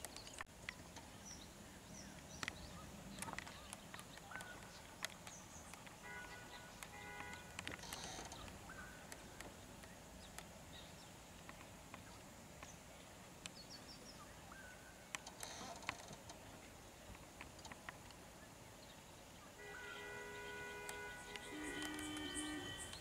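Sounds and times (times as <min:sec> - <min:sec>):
faint outdoor ambience: 0:00.0 - 0:23.0.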